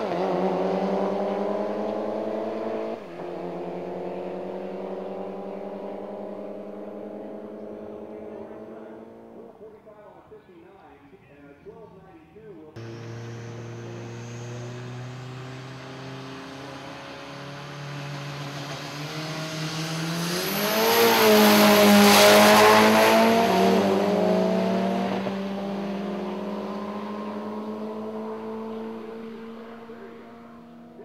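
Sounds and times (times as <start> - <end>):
drag racing cars passing: 0.0 - 10.4, 12.8 - 31.0.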